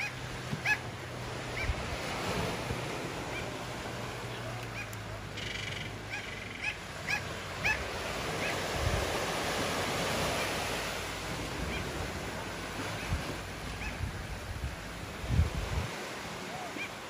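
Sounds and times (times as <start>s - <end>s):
surf washing onto shore: 0.0s - 6.2s, 6.8s - 17.0s.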